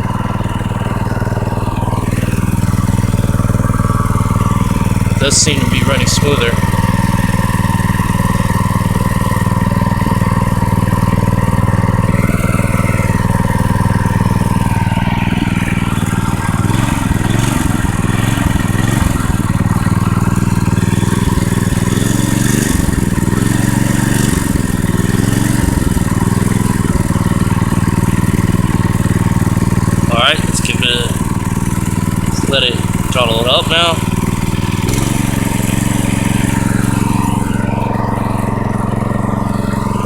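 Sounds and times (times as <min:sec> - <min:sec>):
small engine idling: 0:00.0 - 0:40.0.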